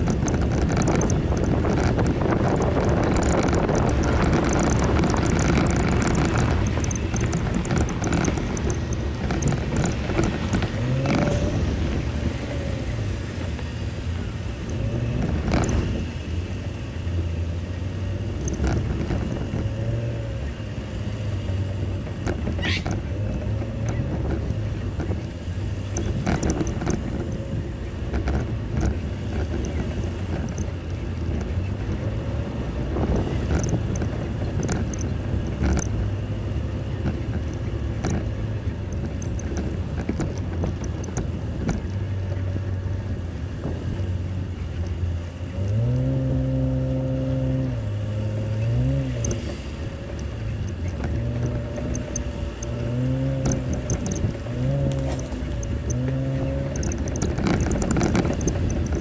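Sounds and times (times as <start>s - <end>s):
engine running at low revs: 0.0s - 59.0s
vehicle knocks and rattles: 0.0s - 59.0s.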